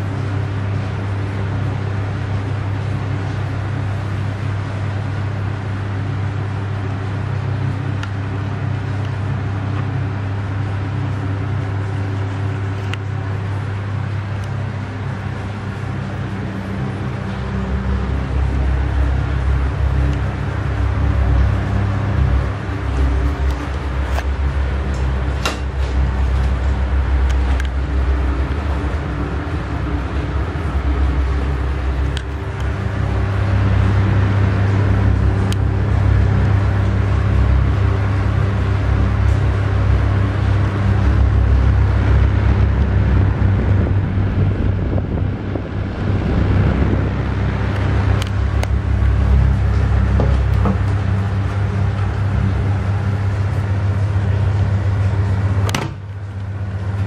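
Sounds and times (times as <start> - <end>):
air rushing through grille: 0.0 - 57.0
exhaust fan humming: 0.0 - 57.0.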